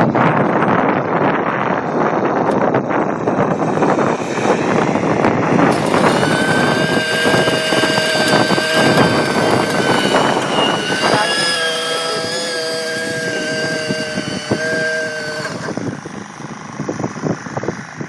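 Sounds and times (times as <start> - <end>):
model helicopter engine whine: 0.0 - 18.0
wind buffeting microphone: 0.0 - 18.0.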